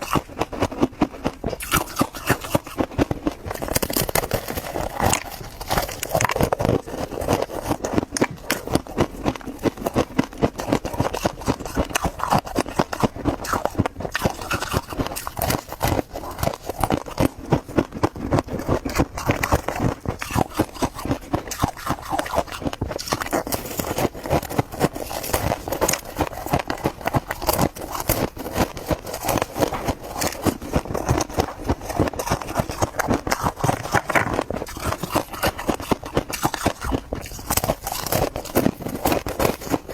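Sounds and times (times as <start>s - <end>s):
frost crunching while chewed: 0.0s - 39.9s.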